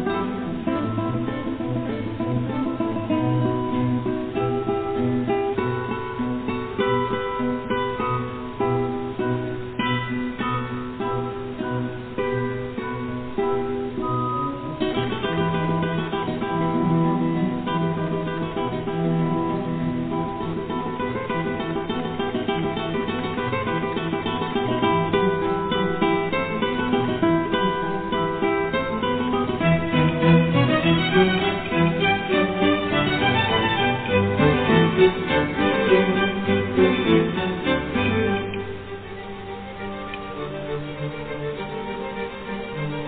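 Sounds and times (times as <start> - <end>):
acoustic guitar plucked and strummed: 0.0 - 43.0.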